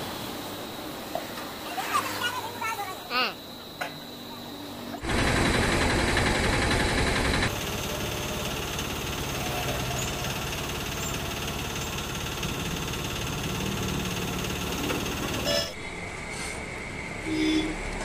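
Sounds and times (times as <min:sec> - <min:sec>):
steady engine-like running noise: 0:00.0 - 0:18.0.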